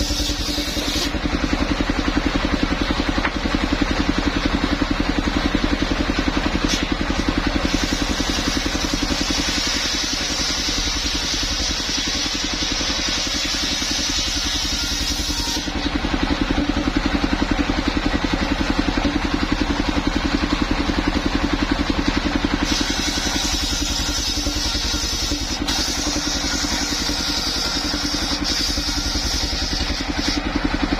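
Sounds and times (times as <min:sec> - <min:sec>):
circular saw blade cutting wood: 0:00.0 - 0:03.6, 0:05.2 - 0:17.7, 0:20.4 - 0:30.9
sawmill engine running: 0:00.0 - 0:30.9.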